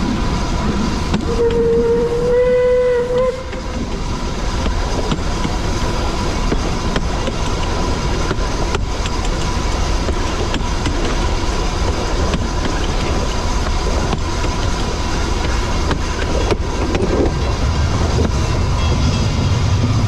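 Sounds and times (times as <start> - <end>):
train rumbling: 0.0 - 20.0
wheels clicking over rails: 0.0 - 20.0.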